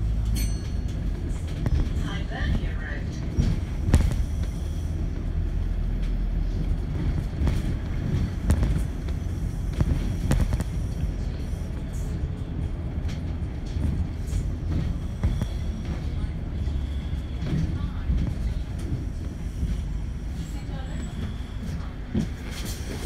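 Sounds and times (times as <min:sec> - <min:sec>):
bus body rattling: 0:00.0 - 0:23.0
bus engine and road rumble: 0:00.0 - 0:23.0.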